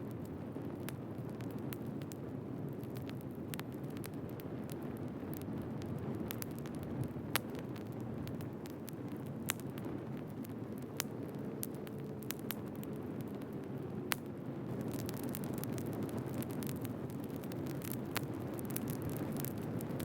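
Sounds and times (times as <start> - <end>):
firewood burning with crackles: 0.0 - 20.0.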